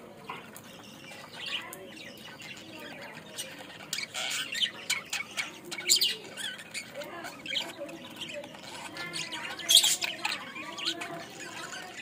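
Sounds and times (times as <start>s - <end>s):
budgerigars chattering: 0.2s - 12.0s.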